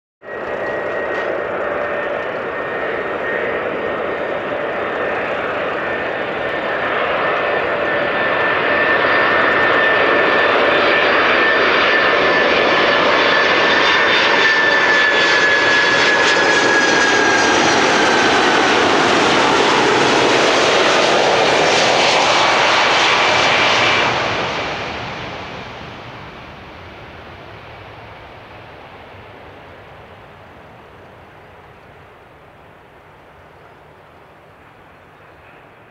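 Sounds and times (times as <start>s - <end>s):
jet engine high whine: 0.2s - 35.9s
jet engines roaring: 0.2s - 35.9s.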